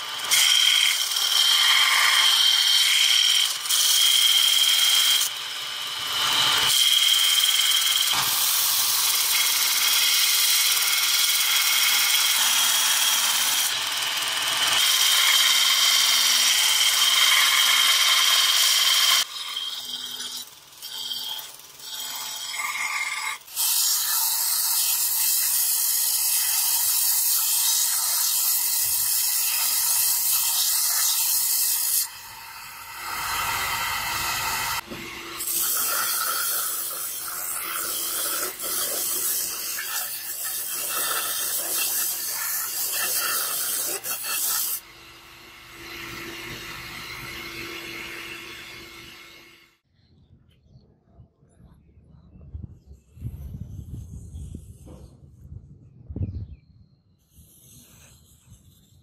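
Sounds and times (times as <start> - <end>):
belt sander grinding steel: 0.0 - 49.8.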